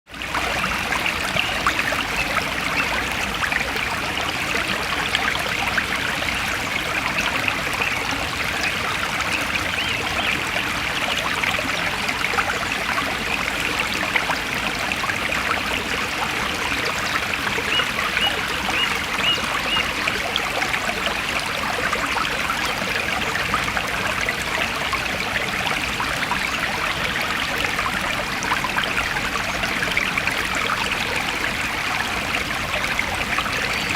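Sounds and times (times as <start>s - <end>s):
stream trickling and splashing: 0.1s - 33.9s.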